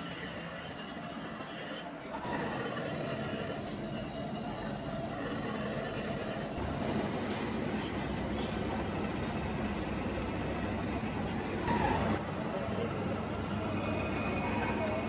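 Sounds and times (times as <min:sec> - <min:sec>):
machine shop machinery hum: 0:00.0 - 0:15.0.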